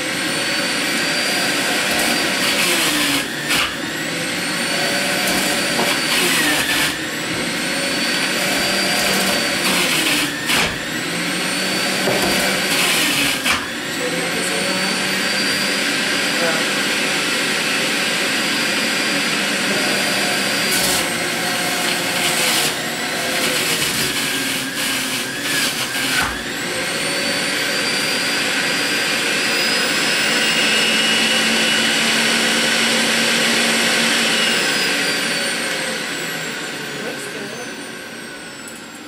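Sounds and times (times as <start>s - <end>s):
juicer motor whining: 0.0s - 39.0s.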